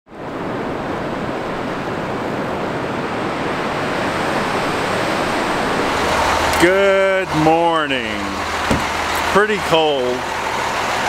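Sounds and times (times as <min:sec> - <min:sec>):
waterfall rushing: 0:01.5 - 0:11.0.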